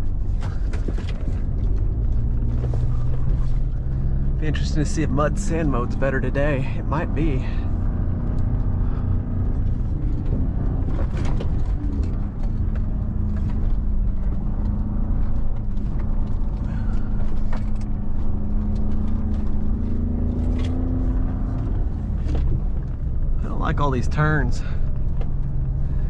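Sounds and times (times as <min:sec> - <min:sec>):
truck engine drone: 0:00.0 - 0:26.0
truck rumbling on rough ground: 0:00.0 - 0:26.0.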